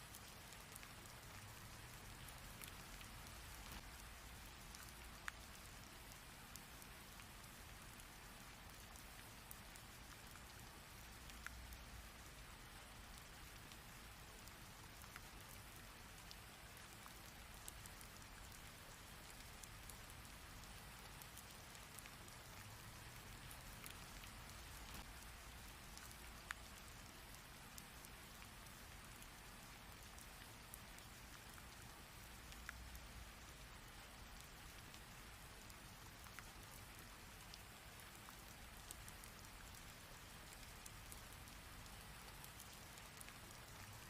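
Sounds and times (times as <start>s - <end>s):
steady rain patter: 0.0s - 44.0s.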